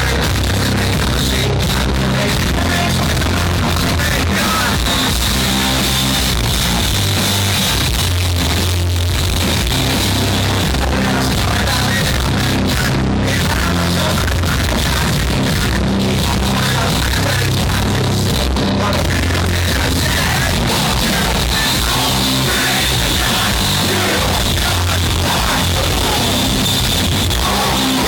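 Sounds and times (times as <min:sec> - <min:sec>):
hard rock band playing live: 0:00.0 - 0:28.0.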